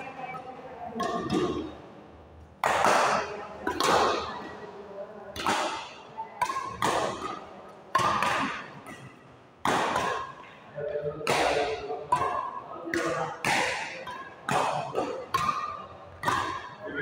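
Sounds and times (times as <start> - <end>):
rackets hitting shuttlecock: 1.0 - 1.8, 2.4 - 4.6, 5.3 - 17.0.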